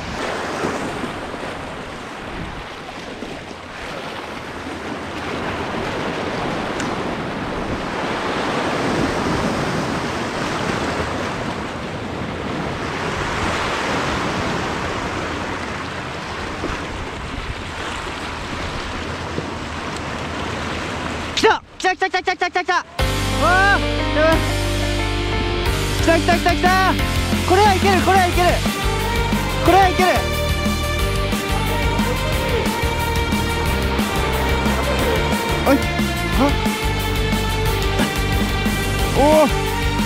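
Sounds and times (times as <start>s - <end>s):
surf washing over rocks: 0.0s - 21.8s, 26.7s - 40.0s.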